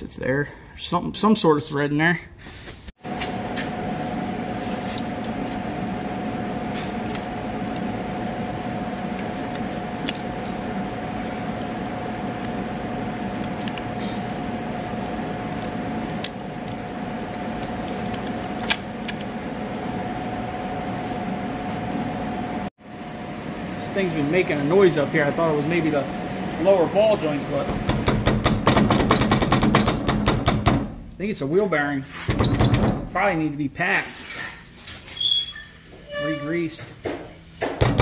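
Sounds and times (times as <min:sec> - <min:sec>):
steady mechanical hum: 0:00.0 - 0:38.0.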